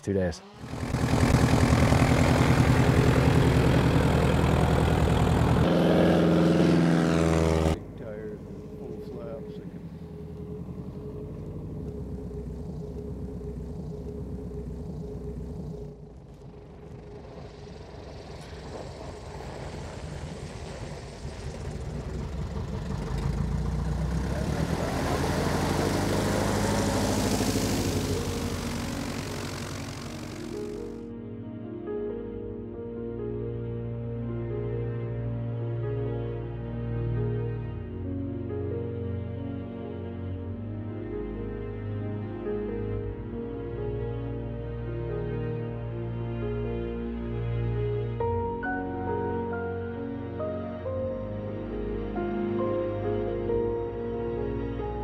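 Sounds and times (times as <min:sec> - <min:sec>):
plane engine and propeller droning: 0:00.0 - 0:55.0.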